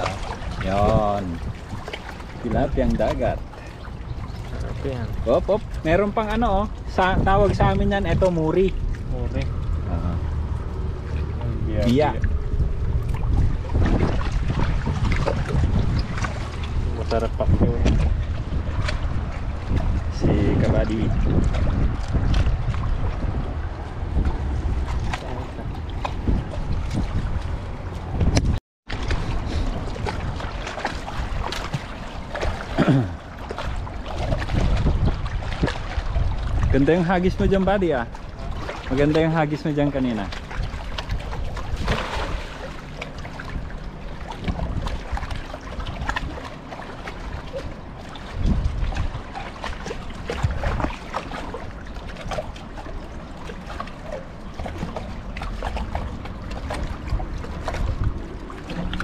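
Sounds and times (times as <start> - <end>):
water sloshing and splashing: 0.0 - 59.0
wind rumbling on microphone: 0.0 - 59.0.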